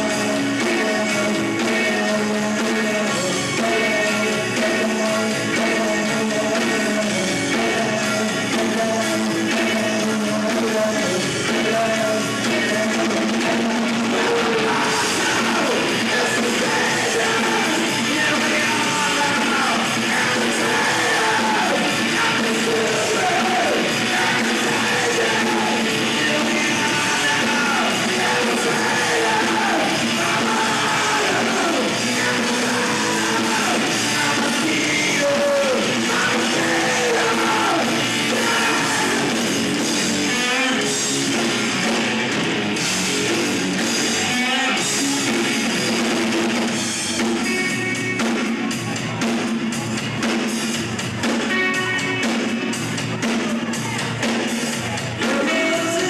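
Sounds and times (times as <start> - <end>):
person singing: 0.0 - 42.3, 43.8 - 45.9, 51.2 - 56.0
rock band playing live: 0.0 - 56.0.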